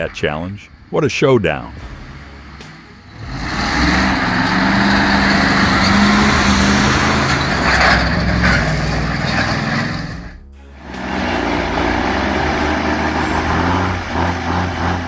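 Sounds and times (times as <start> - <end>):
truck diesel engine under load: 1.5 - 15.0.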